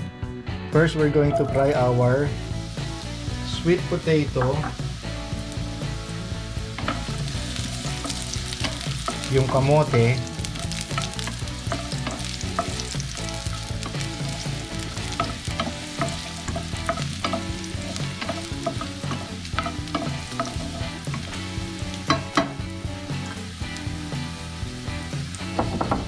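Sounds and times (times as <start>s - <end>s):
sweet potato sizzling in oil: 1.3s - 26.0s.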